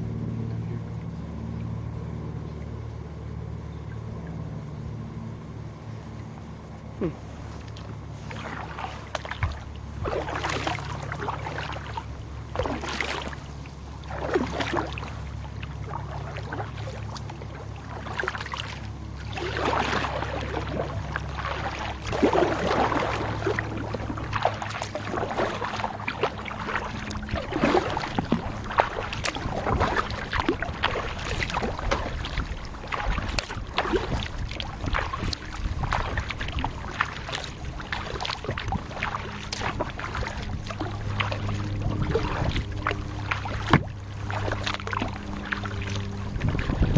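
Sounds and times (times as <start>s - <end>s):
paddle strokes splashing: 0.0s - 46.9s.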